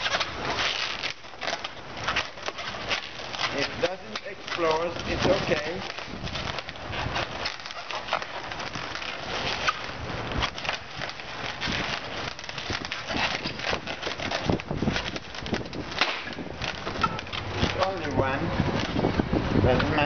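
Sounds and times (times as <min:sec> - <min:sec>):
balloons squeaking and crackling: 0:00.0 - 0:20.0.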